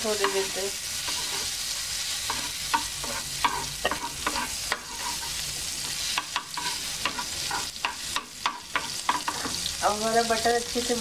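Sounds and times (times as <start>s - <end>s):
butter and oil sizzling in a pan: 0.0s - 11.0s
wooden spatula scraping a pan: 0.2s - 1.6s, 2.2s - 9.6s.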